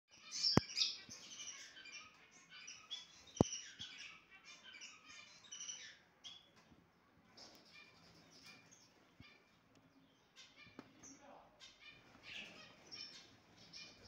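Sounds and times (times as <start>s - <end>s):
cage birds chirping: 0.1s - 14.0s.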